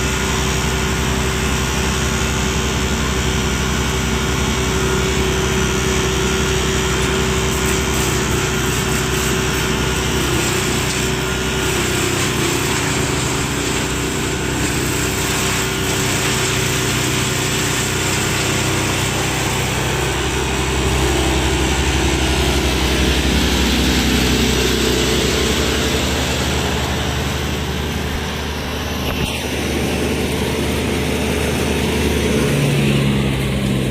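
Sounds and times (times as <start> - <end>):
wood chipper diesel engine: 0.0 - 33.9.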